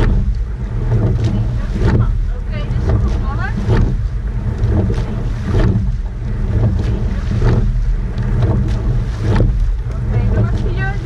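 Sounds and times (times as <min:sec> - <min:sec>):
oars knocking and splashing: 0:00.0 - 0:11.0
water rushing past hull: 0:00.0 - 0:11.0
wind rumble on microphone: 0:00.0 - 0:11.0.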